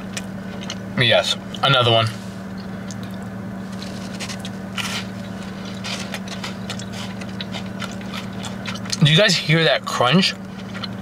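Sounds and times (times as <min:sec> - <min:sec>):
cookie crunching while chewed: 0:00.0 - 0:00.9, 0:02.6 - 0:11.0
steady low hum: 0:00.0 - 0:11.0.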